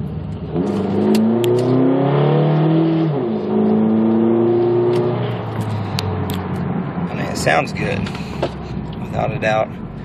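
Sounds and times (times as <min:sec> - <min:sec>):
car engine revving and misfiring: 0:00.0 - 0:10.0.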